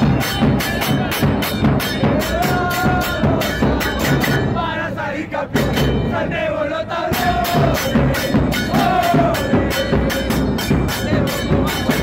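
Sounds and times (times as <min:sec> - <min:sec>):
street brass band playing: 0:00.0 - 0:12.0.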